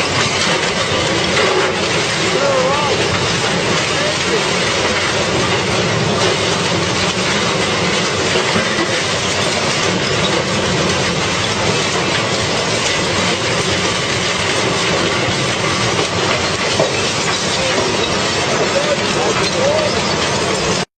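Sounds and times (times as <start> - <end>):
car shredder grinding metal: 0.0 - 20.9.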